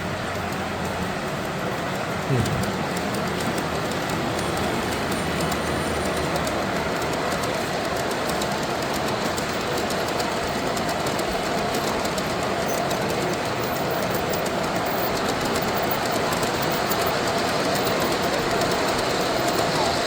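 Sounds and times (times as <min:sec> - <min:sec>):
model train wheels clattering: 0:00.0 - 0:20.0.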